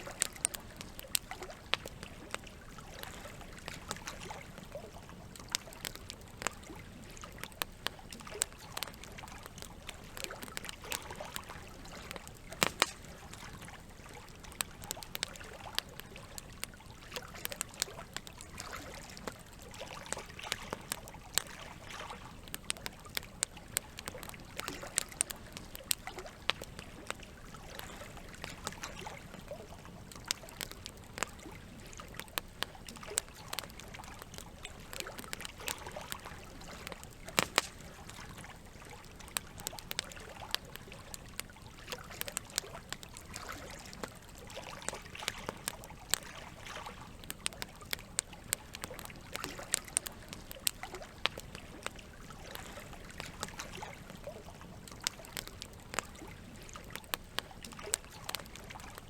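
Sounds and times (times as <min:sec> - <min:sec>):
campfire crackling and popping: 0:00.0 - 0:59.0
running water: 0:00.0 - 0:59.0.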